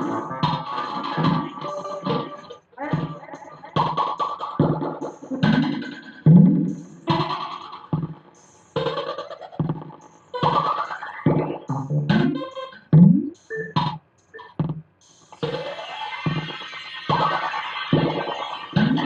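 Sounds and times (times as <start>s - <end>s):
experimental electronic music: 0.0s - 19.0s.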